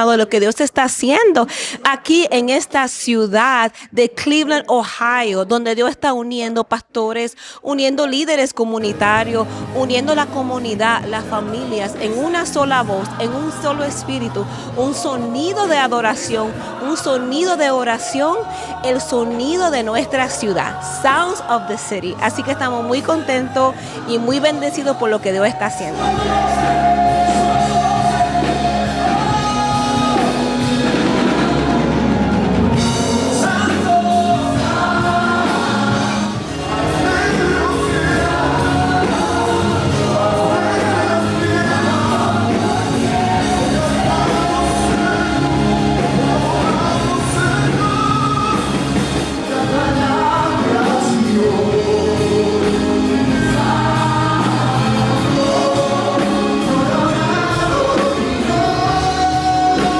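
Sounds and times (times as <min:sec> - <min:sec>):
band playing: 0:08.8 - 0:59.9
gospel choir singing: 0:08.8 - 0:59.9.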